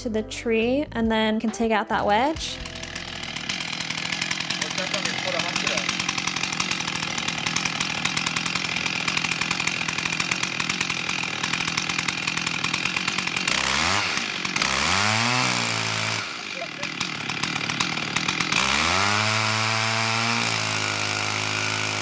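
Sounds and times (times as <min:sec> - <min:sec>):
chainsaw idling and revving: 0:02.0 - 0:22.0.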